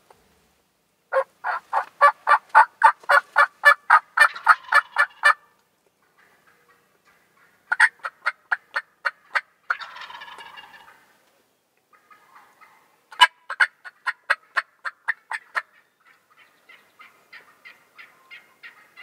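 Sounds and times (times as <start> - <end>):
wild turkey yelps: 1.1 - 11.1, 11.9 - 19.0
turkey gobbling: 1.1 - 11.2, 11.9 - 19.0.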